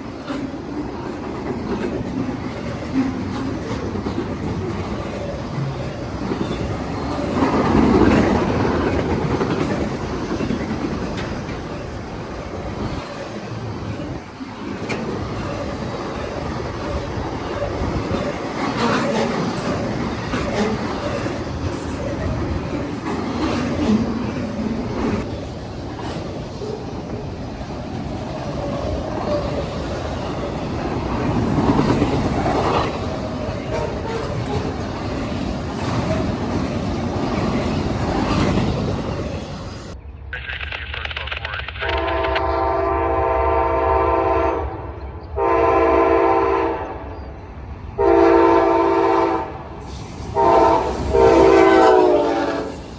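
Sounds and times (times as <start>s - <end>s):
freight train wheels on rails: 0.0s - 40.0s, 41.0s - 52.9s.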